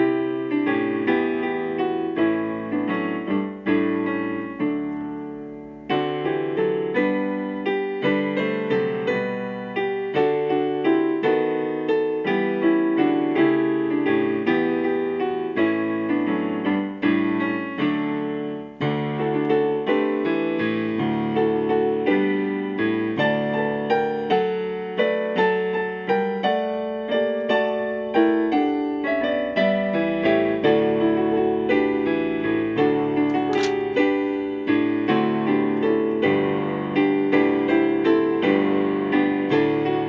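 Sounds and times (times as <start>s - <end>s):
piano notes and chords: 0.0s - 40.0s.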